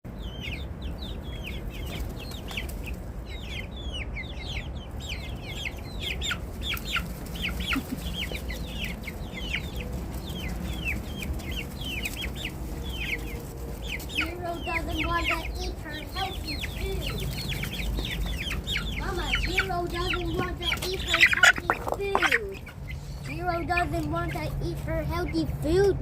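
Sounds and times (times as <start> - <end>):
chicks peeping: 0.1 - 26.0.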